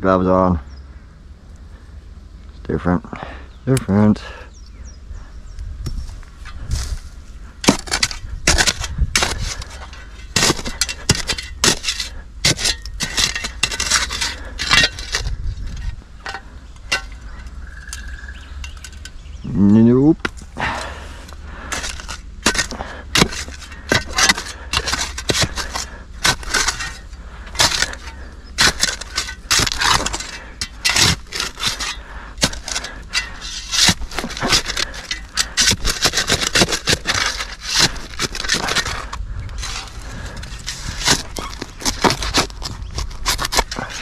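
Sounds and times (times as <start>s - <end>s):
steady low rumble: 0.0s - 44.0s
tool scraping and striking soil: 5.8s - 44.0s.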